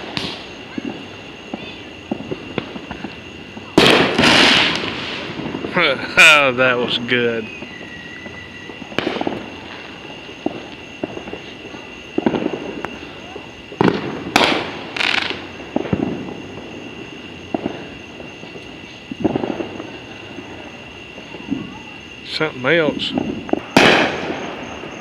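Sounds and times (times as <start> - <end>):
fireworks bangs and booms: 0.0 - 25.0
hissing crackling firework bursts: 0.0 - 25.0.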